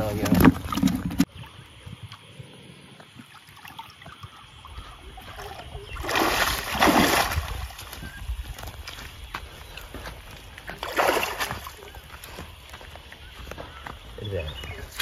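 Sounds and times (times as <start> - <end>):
muddy water splashing: 0.0 - 2.3, 3.0 - 15.0.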